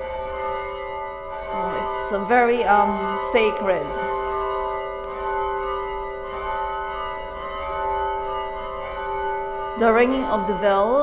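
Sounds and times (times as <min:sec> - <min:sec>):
bell-like chord ringing: 0:00.0 - 0:11.0.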